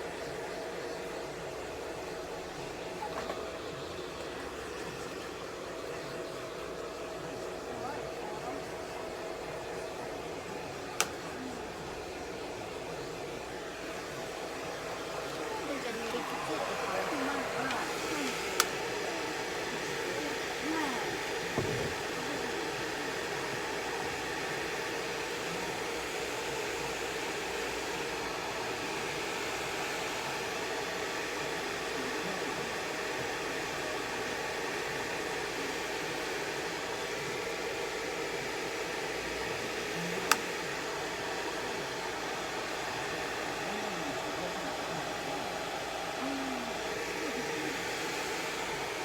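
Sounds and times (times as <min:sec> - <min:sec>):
hair dryer running: 0:00.0 - 0:49.0.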